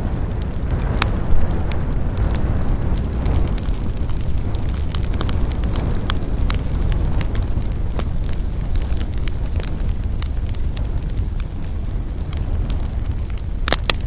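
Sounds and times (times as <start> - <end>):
burning wood crackling: 0.0 - 14.0
rush of campfire flames: 0.0 - 14.0.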